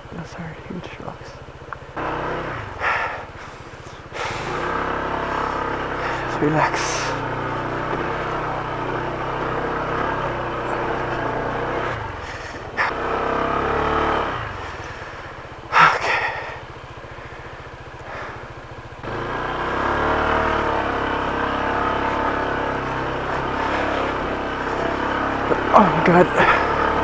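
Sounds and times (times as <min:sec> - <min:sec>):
scooter engine revving: 0:01.3 - 0:27.0.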